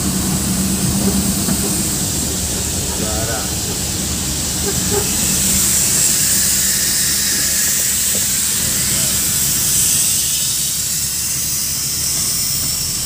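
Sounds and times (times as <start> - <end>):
road and wind hiss: 0.0 - 13.0
vehicle engine drone: 0.0 - 13.0.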